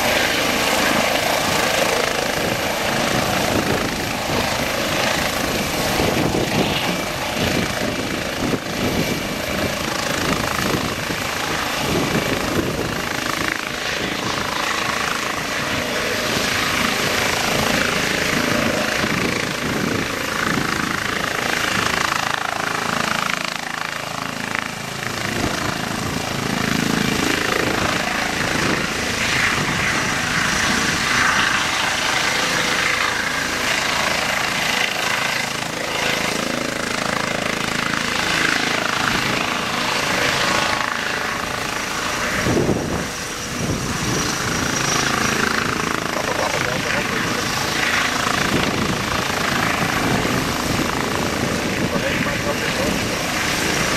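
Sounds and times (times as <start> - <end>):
helicopter rotor noise: 0.0 - 53.9
helicopter turbine whine: 0.0 - 53.9.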